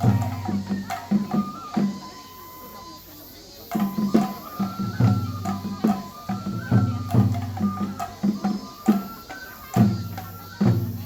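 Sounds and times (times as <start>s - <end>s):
deep drum beats: 0.0s - 2.1s, 3.7s - 11.0s
high flute melody: 0.0s - 11.0s.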